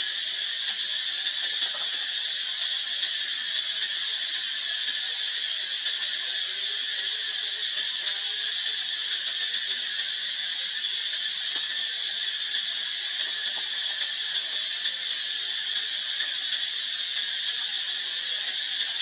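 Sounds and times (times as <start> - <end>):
steady high-pitched hiss: 0.0 - 19.0.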